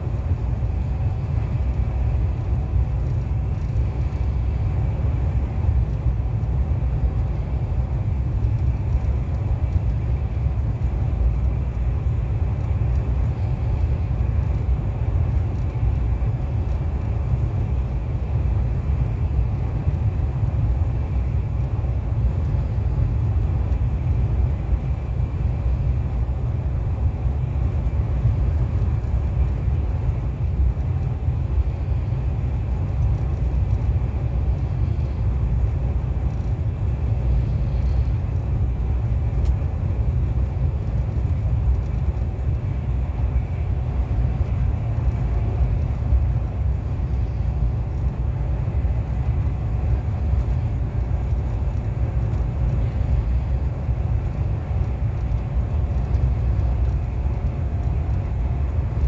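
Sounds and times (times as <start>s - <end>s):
high-speed train rumble: 0.0s - 59.0s.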